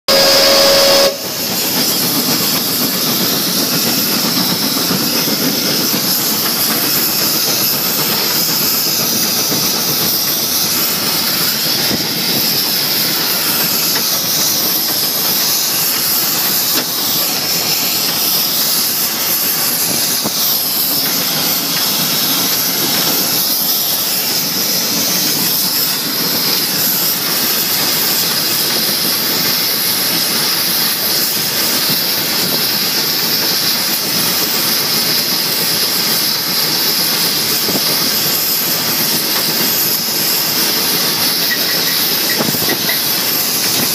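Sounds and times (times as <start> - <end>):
steam hissing: 0.1 - 43.9.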